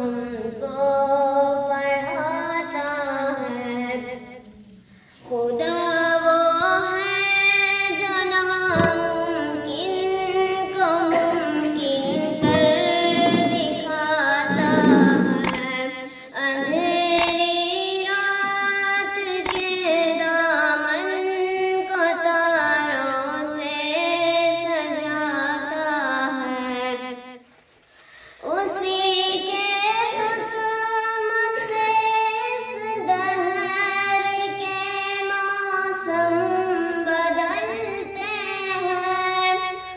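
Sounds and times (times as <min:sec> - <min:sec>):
person singing devotional song: 0:00.0 - 0:27.4, 0:28.4 - 0:39.9.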